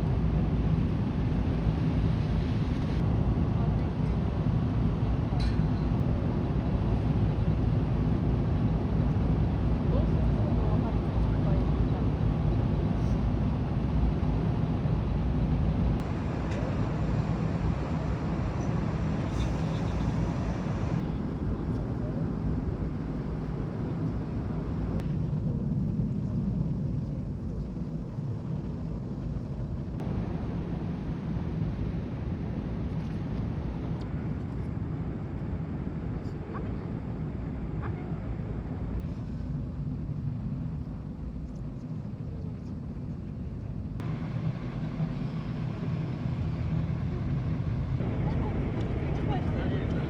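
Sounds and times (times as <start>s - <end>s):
ferry engines humming: 0.0s - 25.5s, 27.7s - 50.0s.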